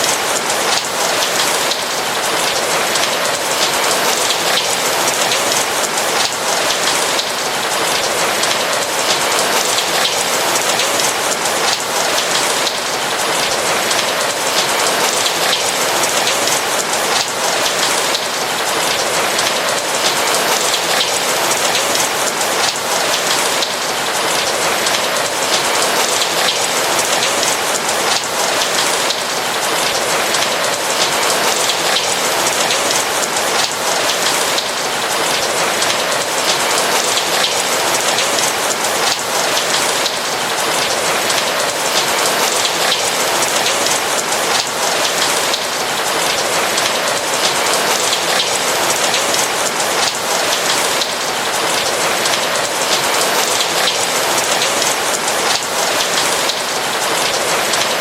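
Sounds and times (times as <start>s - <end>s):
rain patter on a roof: 0.0s - 58.0s
steady rain falling: 0.0s - 58.0s.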